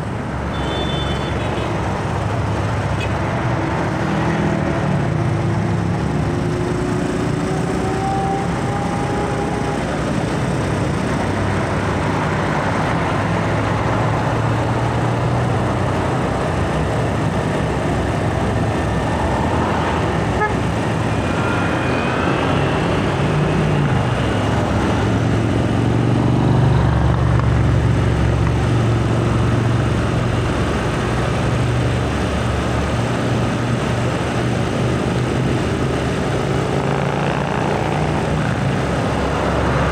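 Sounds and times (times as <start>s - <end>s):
diesel trucks passing: 0.0s - 39.9s
motorcycles passing: 0.0s - 39.9s.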